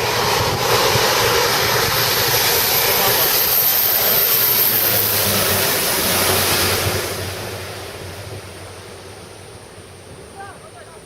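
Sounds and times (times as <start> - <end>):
aircraft engine roar: 0.0 - 11.0.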